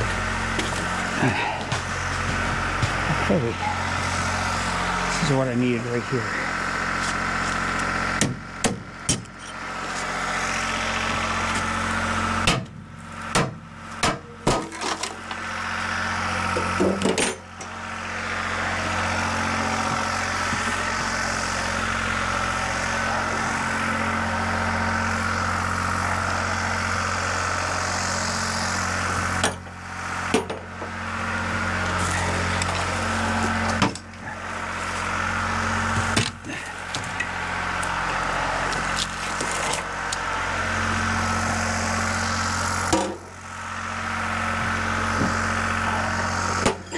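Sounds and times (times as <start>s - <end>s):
generator engine running: 0.0s - 46.9s.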